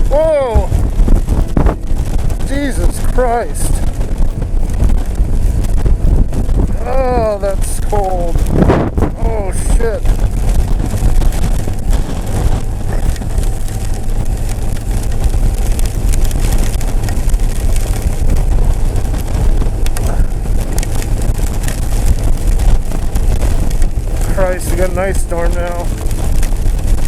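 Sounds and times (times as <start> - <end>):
ice pellets ticking on helmet: 0.0 - 27.0
wind buffeting helmet microphone: 0.0 - 27.0.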